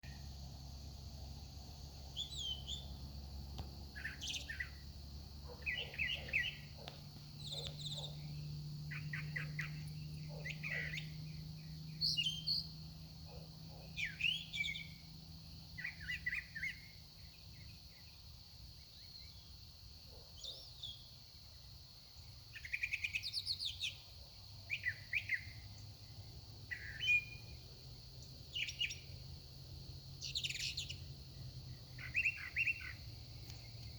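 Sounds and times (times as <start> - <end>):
faint steady low hum: 0.0 - 33.9
songbird singing: 0.0 - 33.9.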